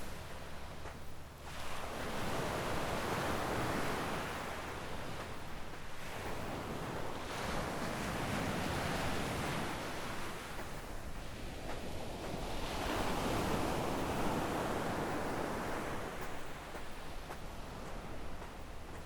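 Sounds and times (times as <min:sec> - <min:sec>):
small waves breaking on beach: 0:00.0 - 0:19.0.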